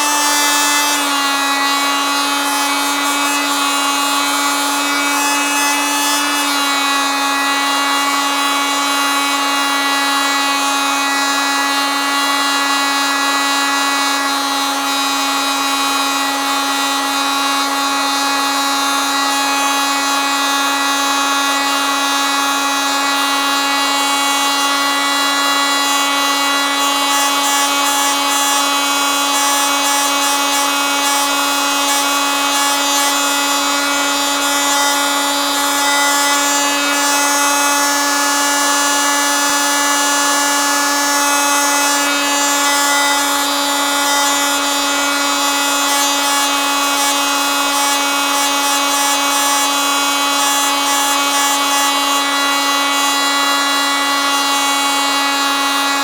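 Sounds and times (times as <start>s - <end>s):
oscillating multitool buzzing whine: 0.0s - 56.0s.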